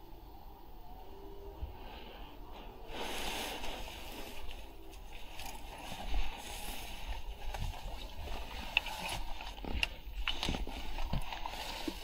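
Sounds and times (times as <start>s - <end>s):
clothing and grass rustling: 1.4s - 12.0s.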